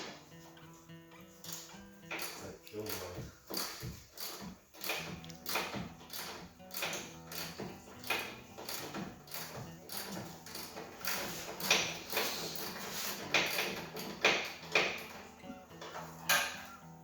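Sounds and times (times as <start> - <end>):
metal tools clanking and scraping: 0.6 - 16.9.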